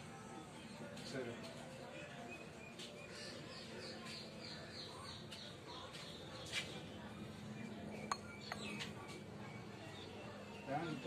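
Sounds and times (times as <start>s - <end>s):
small bird chirping: 2.1s - 11.0s.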